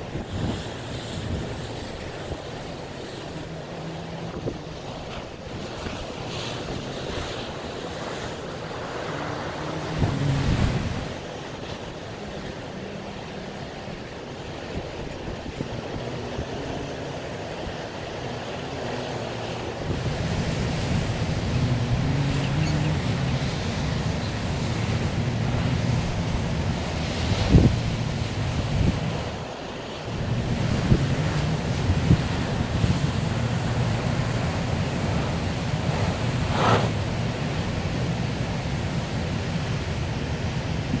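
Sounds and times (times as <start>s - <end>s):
storm surf breaking: 0.0s - 41.0s
wind buffeting microphone: 0.0s - 41.0s.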